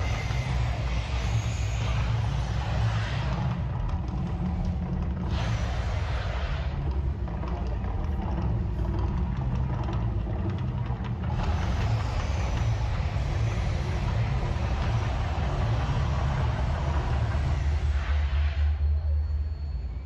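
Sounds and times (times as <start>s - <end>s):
broad rushing noise: 0.0s - 10.0s, 11.0s - 19.2s
deep steady rumble: 0.0s - 20.0s.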